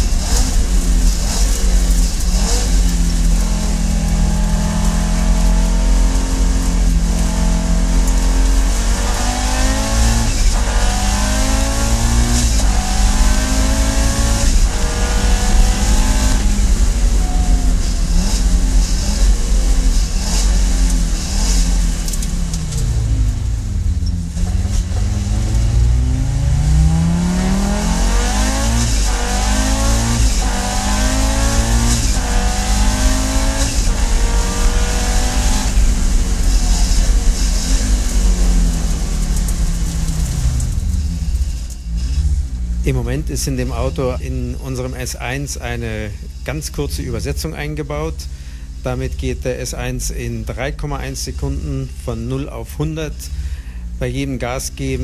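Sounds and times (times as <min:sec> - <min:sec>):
car engine accelerating through gears: 0:00.0 - 0:52.3.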